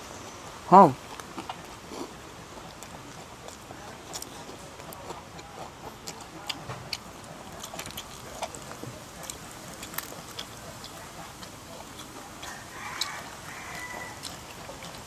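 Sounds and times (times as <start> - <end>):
background hiss: 0.0 - 15.0
crunchy chewing: 0.2 - 15.0.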